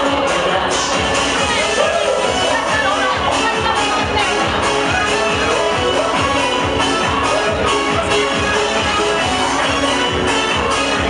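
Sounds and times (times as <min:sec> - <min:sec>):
dance music from live band: 0:00.0 - 0:11.0.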